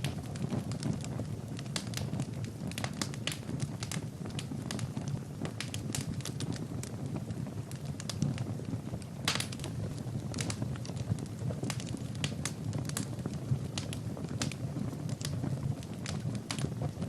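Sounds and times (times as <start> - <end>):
fire pops and snaps: 0.0 - 17.0
low rumble of flames: 0.0 - 17.0
wood fire crackling: 0.0 - 17.0.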